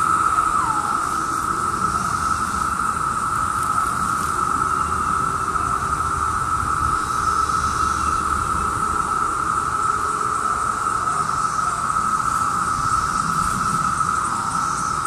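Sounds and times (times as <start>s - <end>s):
cicadas droning in chorus: 0.0s - 15.0s.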